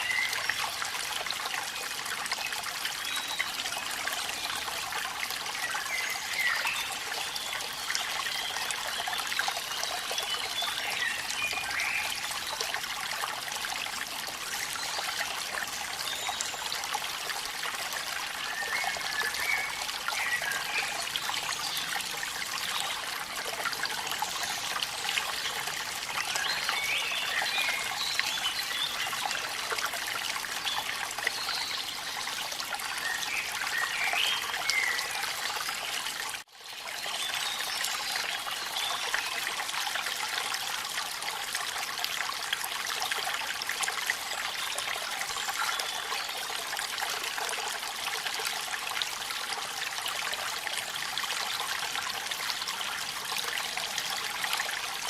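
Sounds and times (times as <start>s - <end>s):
waterfall trickling and splashing: 0.0s - 55.0s.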